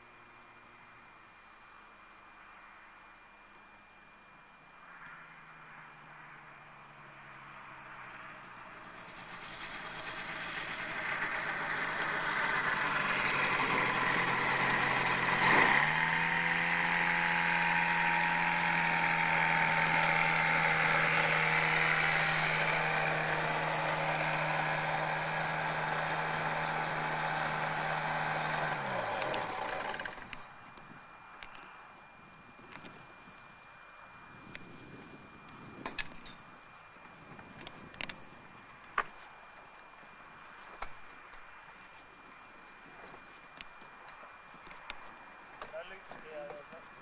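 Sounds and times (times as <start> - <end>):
microlight engine and propeller: 0.0 - 47.0.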